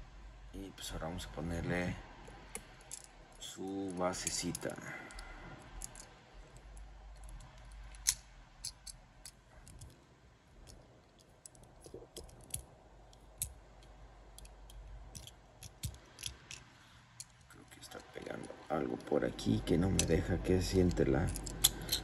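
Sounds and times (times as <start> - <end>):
model truck parts clicking: 2.6 - 10.0, 10.6 - 19.1, 19.8 - 22.0.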